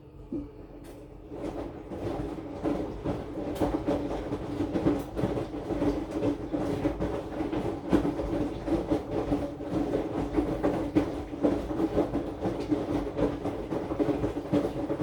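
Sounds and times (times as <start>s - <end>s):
washing machine motor hum: 0.0s - 15.0s
washing machine knocks and rattles: 1.2s - 15.0s.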